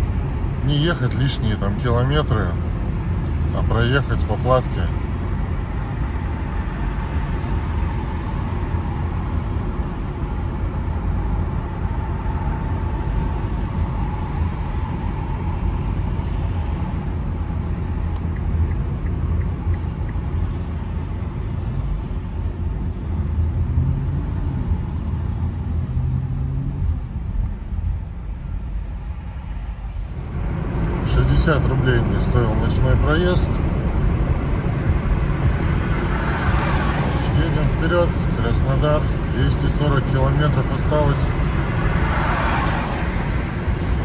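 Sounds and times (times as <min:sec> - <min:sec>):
road and tyre rumble: 0:00.0 - 0:44.0.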